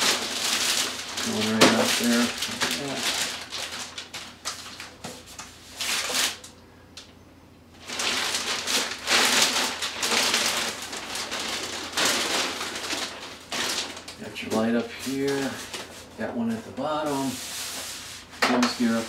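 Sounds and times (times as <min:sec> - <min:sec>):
plastic wrap crinkling: 0:00.0 - 0:06.5, 0:07.8 - 0:19.0.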